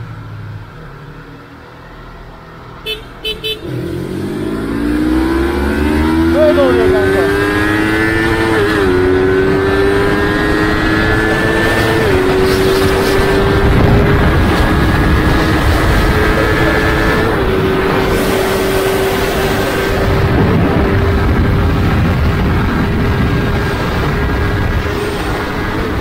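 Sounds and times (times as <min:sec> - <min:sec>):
motorcycle engine at full throttle: 0:02.9 - 0:26.0
wind rush: 0:04.1 - 0:26.0.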